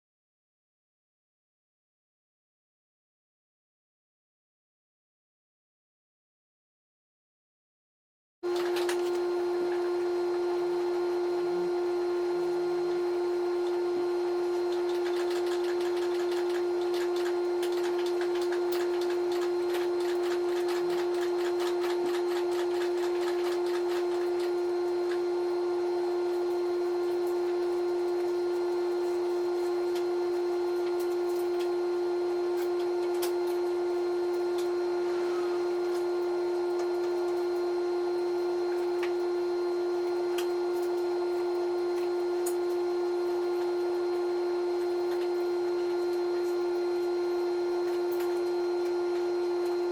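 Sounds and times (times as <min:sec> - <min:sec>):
sander humming on filler: 0:08.4 - 0:49.9.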